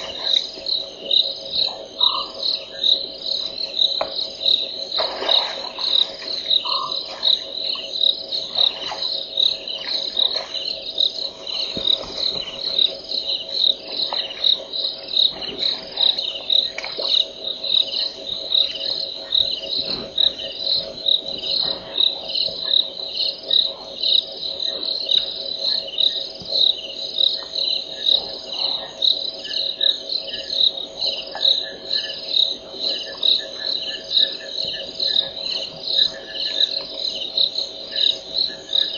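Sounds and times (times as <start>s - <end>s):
frogs trilling: 0.0s - 38.9s
insects chirping: 0.0s - 38.9s.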